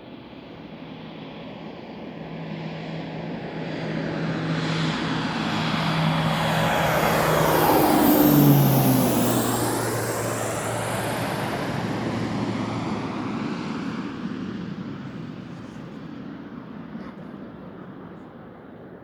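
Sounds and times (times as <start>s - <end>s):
airliner engines passing: 0.0s - 19.0s.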